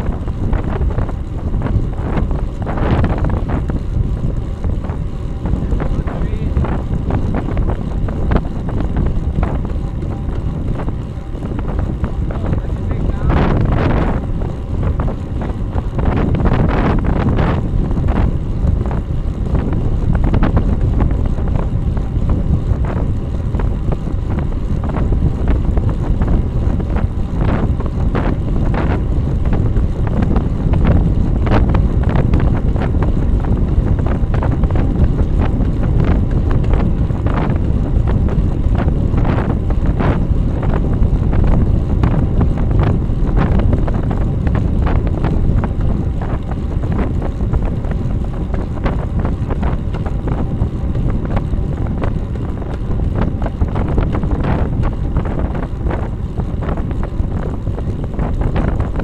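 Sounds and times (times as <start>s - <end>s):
tyre and road noise: 0.0s - 59.0s
wind rushing over microphone: 0.0s - 59.0s.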